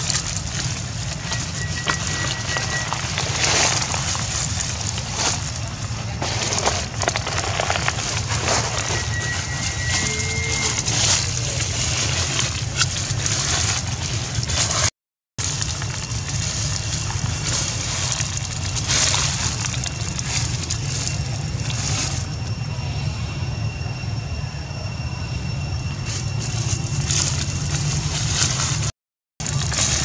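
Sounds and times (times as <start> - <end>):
dry leaves rustling and crunching: 0.0 - 22.5, 25.9 - 30.0
steady low hum: 0.0 - 30.0.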